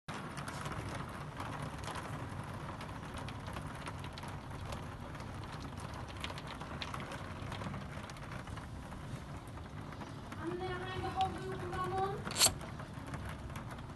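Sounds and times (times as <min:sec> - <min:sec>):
heavy rain falling: 0:00.1 - 0:13.9
raindrops ticking on window glass: 0:00.1 - 0:13.9.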